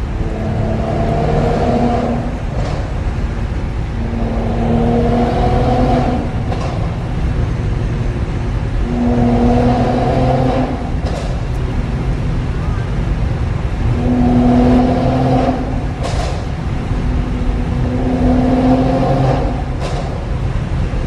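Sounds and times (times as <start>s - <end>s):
car engine revving: 0.0s - 21.0s
exhaust pop: 0.0s - 21.0s.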